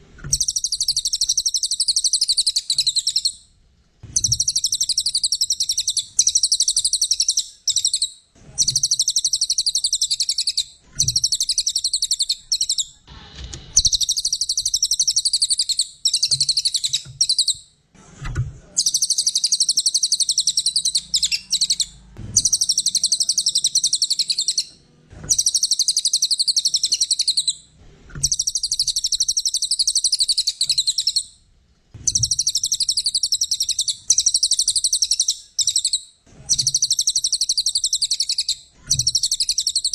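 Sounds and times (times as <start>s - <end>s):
songbird trilling: 0.3s - 3.4s, 4.2s - 12.9s, 13.8s - 17.6s, 18.8s - 24.7s, 25.3s - 27.6s, 28.2s - 31.3s, 32.1s - 39.9s.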